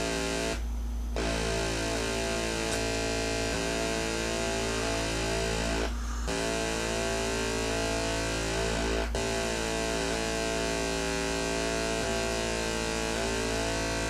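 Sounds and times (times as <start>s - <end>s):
buzzy synthesizer drone: 0.0s - 14.0s.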